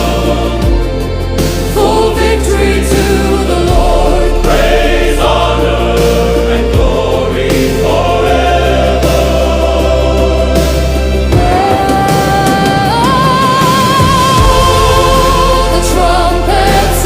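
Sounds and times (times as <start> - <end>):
choir singing held notes: 0.0 - 17.0
deep sustained bass: 0.0 - 17.0.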